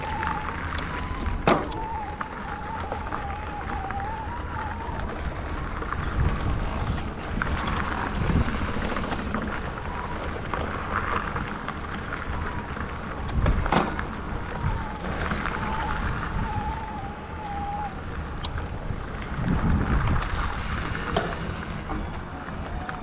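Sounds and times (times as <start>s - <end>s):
faint wavering whine: 0.0s - 23.0s
wind rumbling on microphone: 0.0s - 23.0s.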